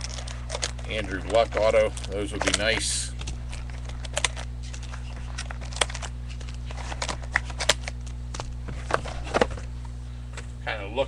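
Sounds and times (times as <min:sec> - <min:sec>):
cards and packaging rustling: 0:00.0 - 0:09.7
low electrical hum: 0:00.0 - 0:11.0.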